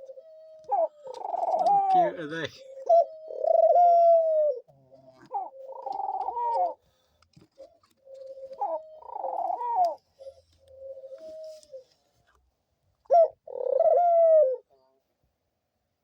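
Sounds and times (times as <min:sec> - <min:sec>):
doves cooing: 0:00.0 - 0:12.2, 0:13.0 - 0:15.0.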